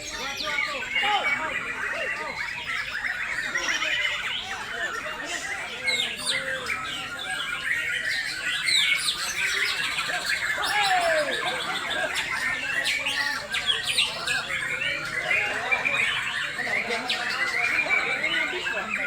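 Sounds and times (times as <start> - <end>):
birds singing whistles and trills: 0.0 - 19.0.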